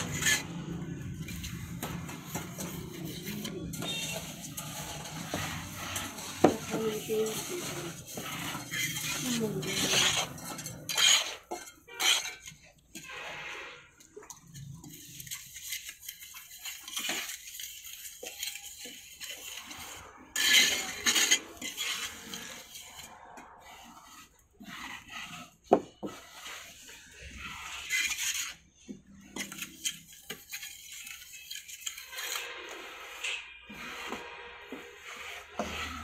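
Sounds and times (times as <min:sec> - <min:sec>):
tools scraping wet cement: 0:00.0 - 0:36.0.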